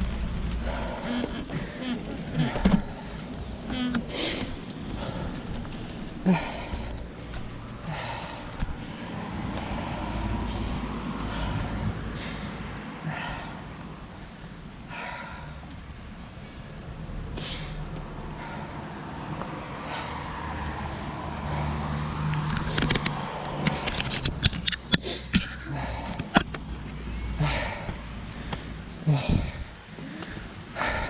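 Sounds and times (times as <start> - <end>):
person breathing hard: 0.0 - 16.0, 17.3 - 23.9, 24.9 - 31.0
road rumble: 0.0 - 31.0
wind: 0.0 - 31.0.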